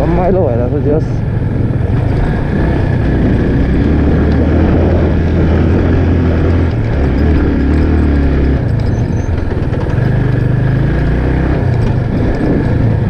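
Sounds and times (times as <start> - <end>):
motorcycle engine running: 0.0 - 13.0
rushing wind noise: 0.0 - 13.0.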